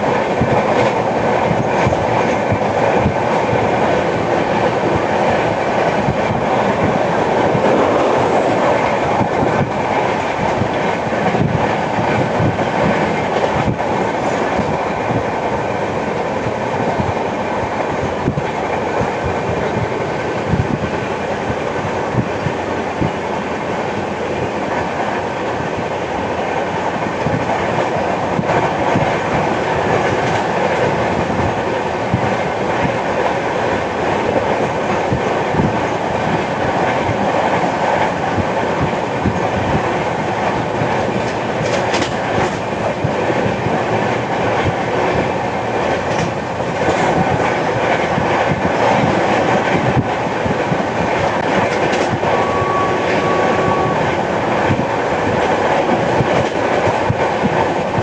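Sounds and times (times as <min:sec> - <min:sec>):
clickety-clack of rail knocks: 0:00.0 - 0:58.0
train wheels rumbling on rails: 0:00.0 - 0:58.0.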